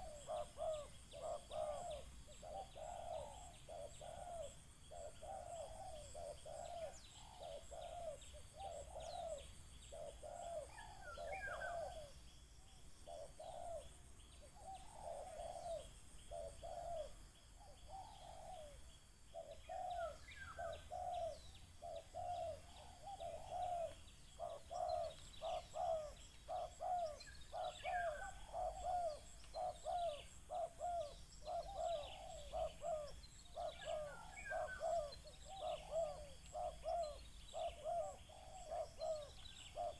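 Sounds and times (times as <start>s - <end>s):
doves cooing: 0.0s - 12.2s, 13.0s - 39.9s
small birds chirping: 0.0s - 39.9s.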